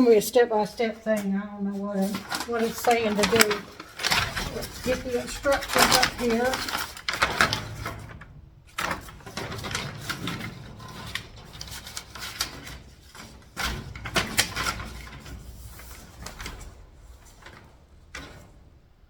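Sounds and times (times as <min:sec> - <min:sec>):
paper rustling and crinkling: 0:00.6 - 0:18.7
sharp clicks and knocks: 0:02.1 - 0:19.0.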